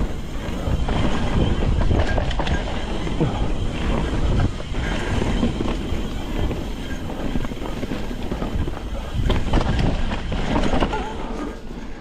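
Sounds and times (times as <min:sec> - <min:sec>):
bike rattling over bumps: 0:00.0 - 0:12.0.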